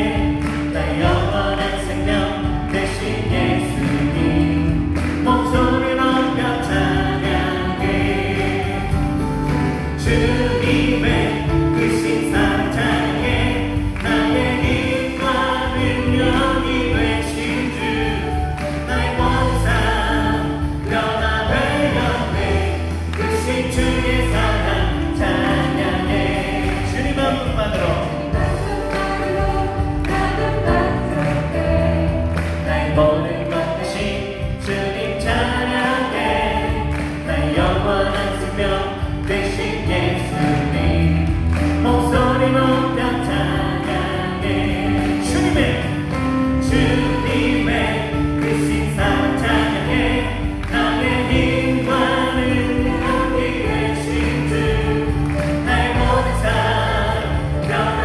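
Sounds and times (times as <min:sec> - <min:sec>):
women singing together: 0:00.0 - 0:09.2, 0:09.9 - 0:27.6, 0:28.2 - 0:58.0
bass guitar: 0:00.0 - 0:58.0
drums: 0:00.0 - 0:58.0
keyboard: 0:00.0 - 0:58.0.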